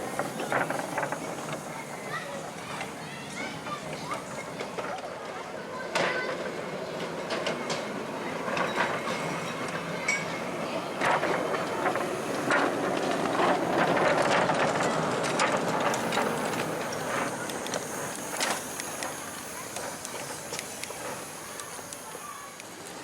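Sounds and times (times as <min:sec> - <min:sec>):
miniature train running past: 0:00.0 - 0:23.0
wheels clicking on track: 0:00.0 - 0:23.0.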